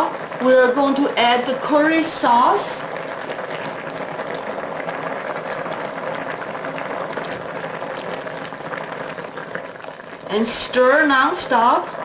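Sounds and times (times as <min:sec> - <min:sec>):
food simmering in a wok: 0:00.0 - 0:12.0.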